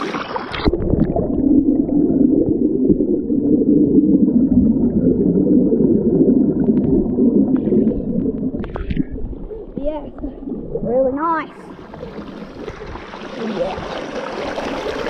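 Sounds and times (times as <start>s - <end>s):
creek water rushing underwater: 0.0s - 15.0s.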